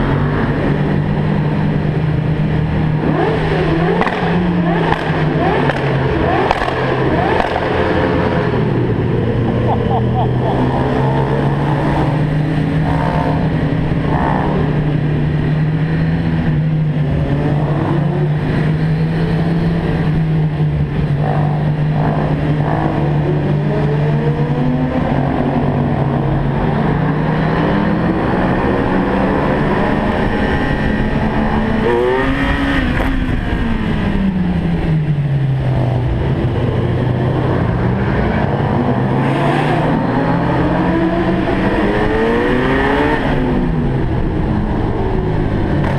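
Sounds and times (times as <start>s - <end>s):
car engine and exhaust: 0.0s - 45.9s
passing vehicle engines: 0.0s - 45.9s.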